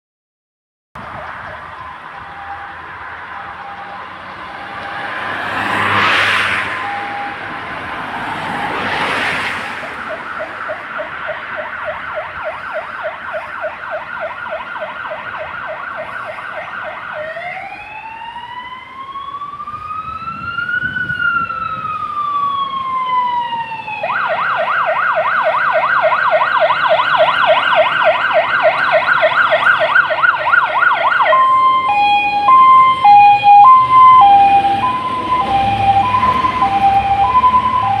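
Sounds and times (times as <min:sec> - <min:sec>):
car passing: 0:01.0 - 0:38.0
fire engine siren: 0:01.0 - 0:38.0.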